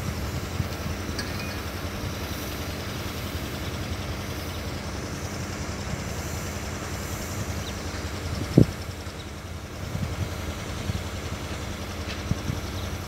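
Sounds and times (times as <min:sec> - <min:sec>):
locomotive diesel engine running: 0:00.0 - 0:13.0.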